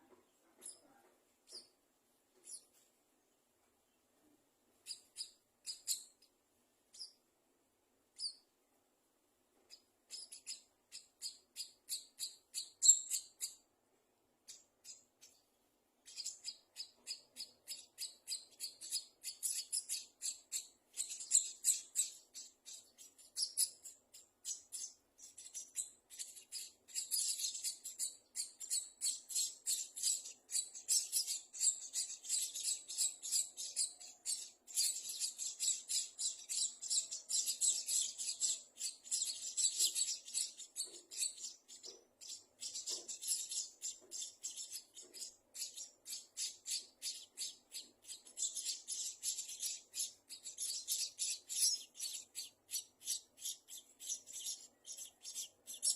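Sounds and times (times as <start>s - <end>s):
nestlings chirping: 0.6s - 2.8s, 4.8s - 7.3s, 8.1s - 8.5s, 9.6s - 13.7s, 14.4s - 55.9s.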